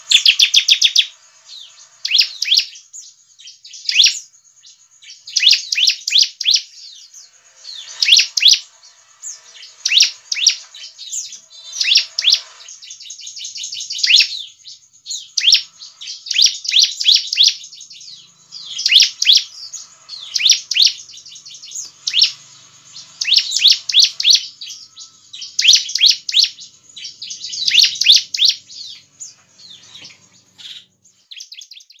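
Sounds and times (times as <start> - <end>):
bird singing sharp chirps: 0.0 - 32.0.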